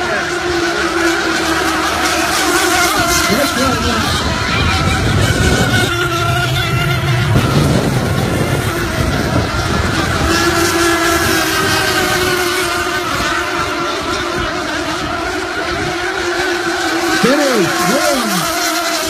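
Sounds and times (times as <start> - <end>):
model boat engines whining: 0.0 - 19.0.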